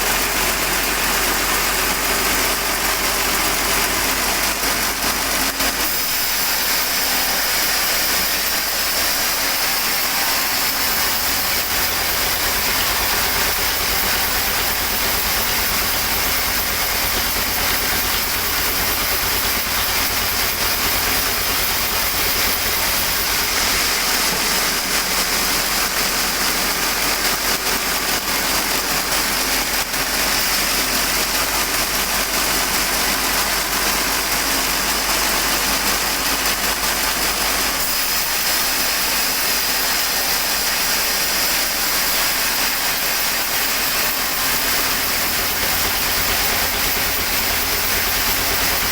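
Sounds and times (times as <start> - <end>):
sawmill machinery running: 0.0 - 48.9.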